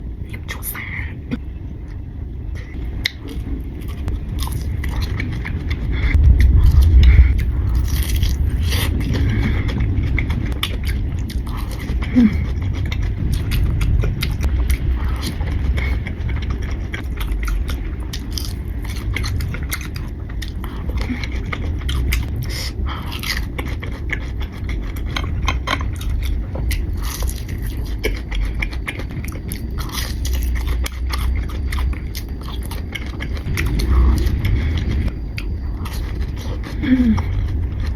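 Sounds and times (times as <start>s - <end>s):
low rumble of mouth sounds: 0.0s - 37.9s
crunchy biting and chewing: 2.6s - 37.9s.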